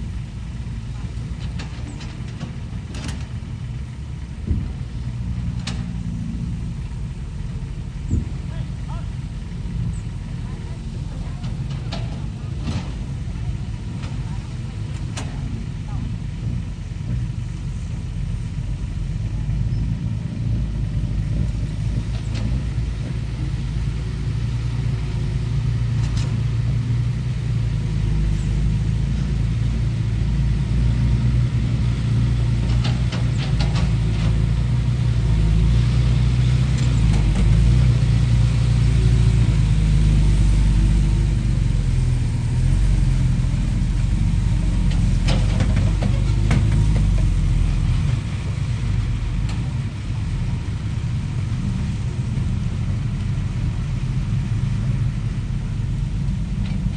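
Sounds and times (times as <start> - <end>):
heavy vehicle engine rumbling: 0.0 - 56.9.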